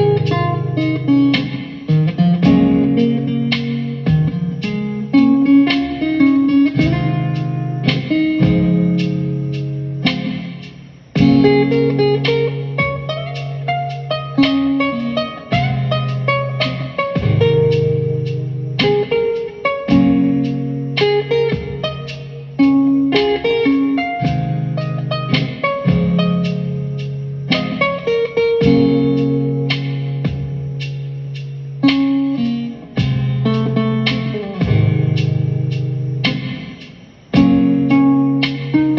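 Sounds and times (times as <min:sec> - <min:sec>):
guitar playing slow chords: 0:00.0 - 0:38.9.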